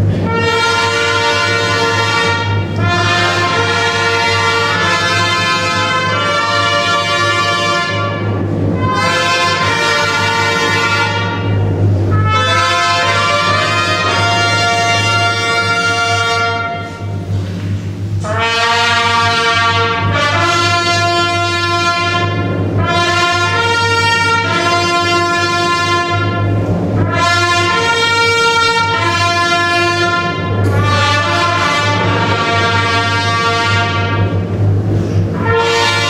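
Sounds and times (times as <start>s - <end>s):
brass chords: 0.0s - 36.0s.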